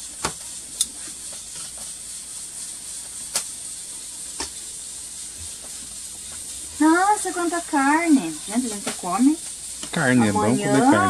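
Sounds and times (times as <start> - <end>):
steady faint hiss: 0.0 - 11.0.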